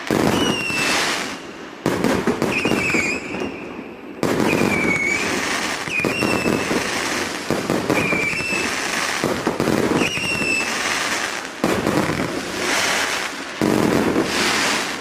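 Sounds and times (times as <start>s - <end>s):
fireworks bangs and crackling: 0.0s - 15.0s
high firework whistles: 0.0s - 15.0s.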